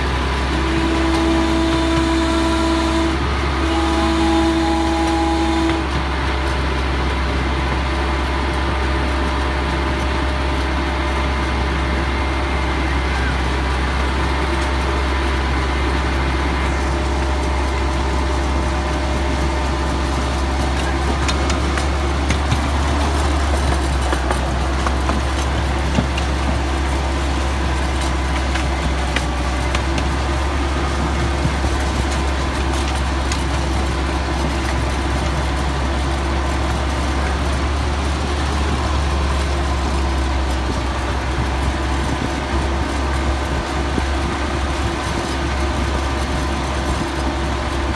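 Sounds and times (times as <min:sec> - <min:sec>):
miniature train engine hum: 0:00.0 - 0:47.9
wheels clicking on rails: 0:00.0 - 0:47.9.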